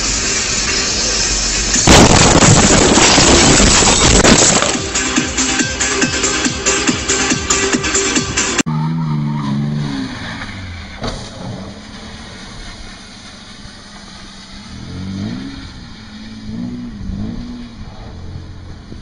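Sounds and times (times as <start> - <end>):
car engine revving: 0.0 - 19.0
road noise: 0.0 - 19.0.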